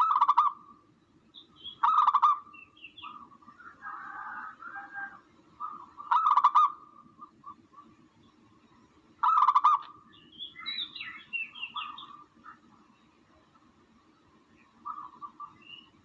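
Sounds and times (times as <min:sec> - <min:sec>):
rapid rattling bird calls: 0:00.0 - 0:08.5, 0:09.1 - 0:13.0, 0:14.0 - 0:16.0.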